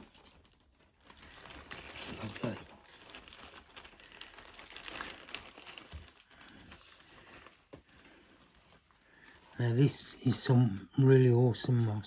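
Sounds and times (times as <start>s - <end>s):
moss crinkling rustles: 0.0s - 11.4s.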